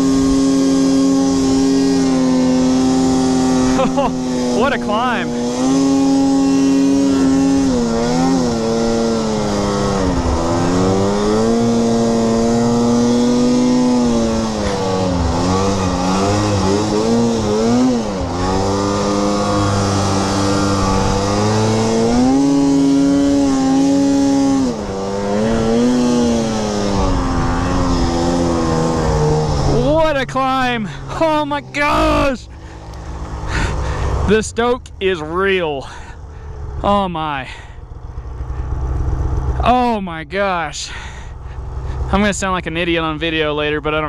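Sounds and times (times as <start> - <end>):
snowmobile engine revving: 0.0 - 44.0.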